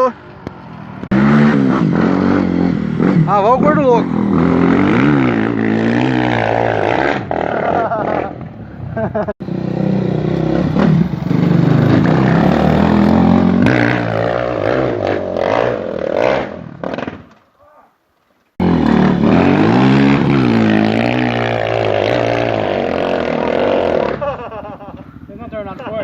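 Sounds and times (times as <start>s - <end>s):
dirt bike engine revving: 1.1s - 8.5s, 9.4s - 17.3s, 18.6s - 24.6s.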